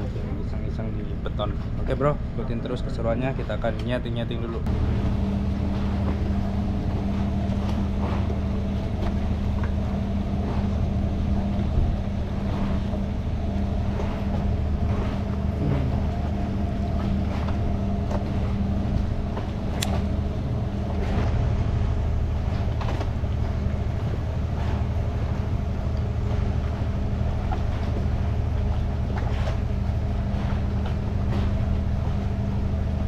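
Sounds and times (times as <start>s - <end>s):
boat engine idling: 0.0s - 33.0s.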